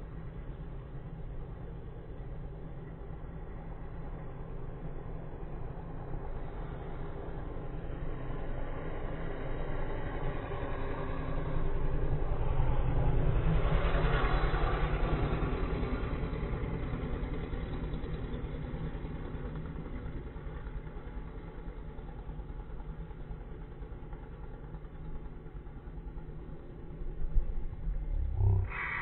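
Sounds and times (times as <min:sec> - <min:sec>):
low pulsing engine rumble: 0:00.0 - 0:29.0.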